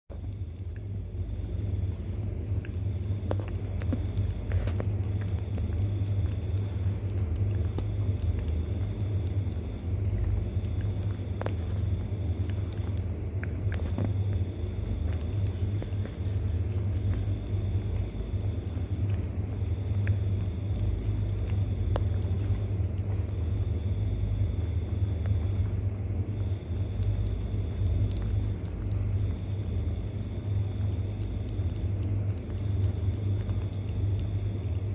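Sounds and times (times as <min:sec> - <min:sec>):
steady low rumble: 0:00.1 - 0:34.9
cat tongue licking: 0:00.3 - 0:34.9.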